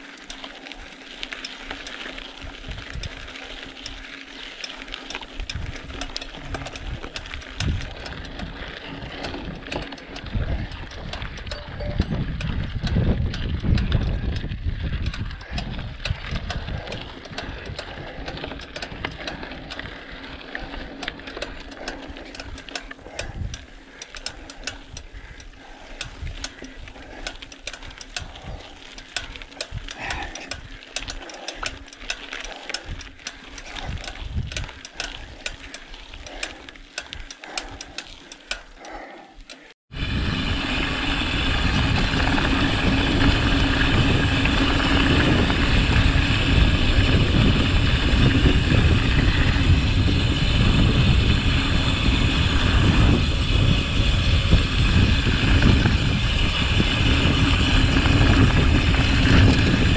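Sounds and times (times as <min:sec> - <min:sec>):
bike rattling over stones: 0:00.0 - 0:59.9.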